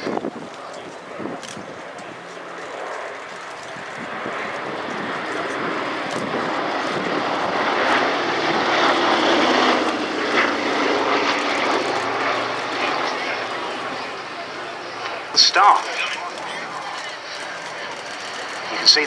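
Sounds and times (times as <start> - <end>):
propeller plane engines passing overhead: 0.0 - 19.0.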